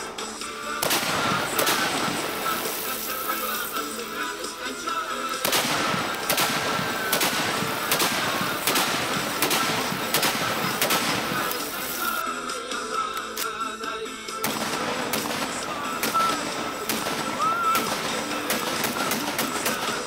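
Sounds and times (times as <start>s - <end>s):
background music: 0.0s - 20.0s
shotgun shots: 0.7s - 12.2s, 14.4s - 20.0s.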